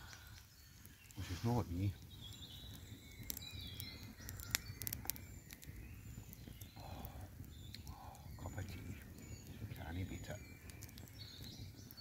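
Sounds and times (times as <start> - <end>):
small birds calling: 0.0 - 12.0.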